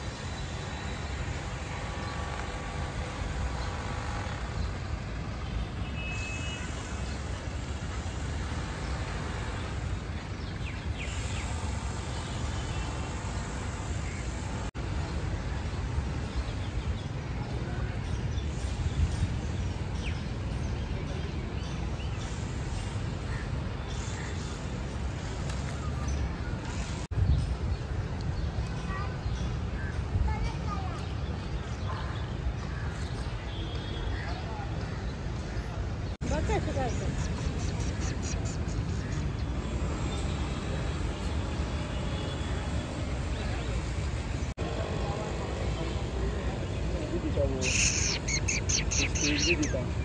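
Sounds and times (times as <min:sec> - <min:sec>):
road traffic: 0:00.0 - 0:50.0.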